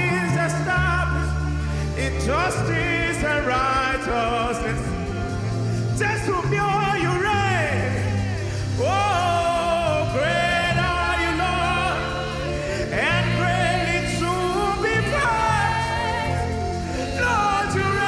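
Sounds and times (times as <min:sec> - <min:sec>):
keyboard accompaniment: 0:00.0 - 0:18.0.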